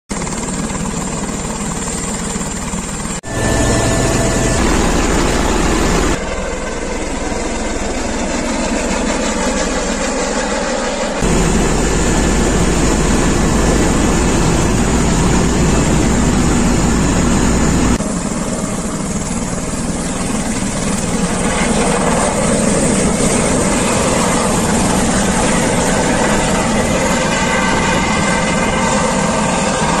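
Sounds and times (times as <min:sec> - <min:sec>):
helicopter turbine and rotor: 0:00.1 - 0:30.0.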